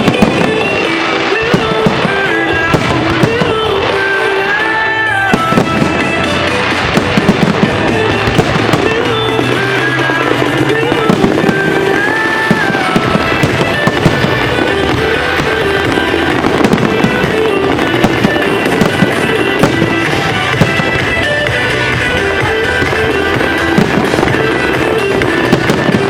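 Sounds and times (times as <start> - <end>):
fireworks banging and crackling: 0.0 - 26.0
music: 0.0 - 26.0.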